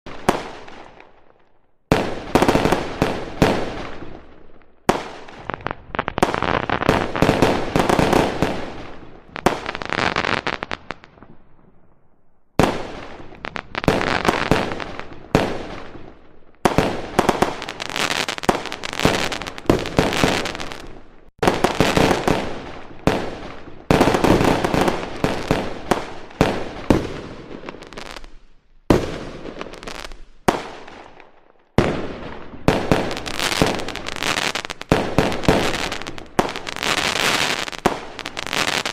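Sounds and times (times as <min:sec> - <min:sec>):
fireworks banging and crackling: 0:00.1 - 0:11.8, 0:12.6 - 0:38.9.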